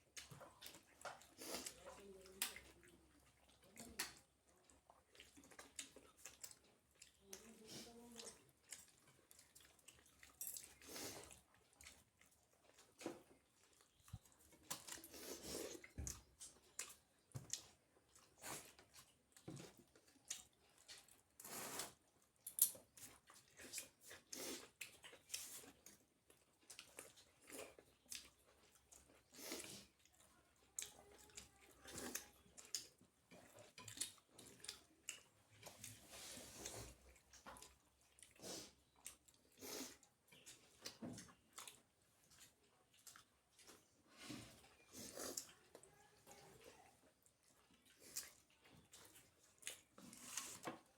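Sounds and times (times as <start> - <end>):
person chewing with mouth smacks: 0.0 - 46.0, 46.9 - 50.9.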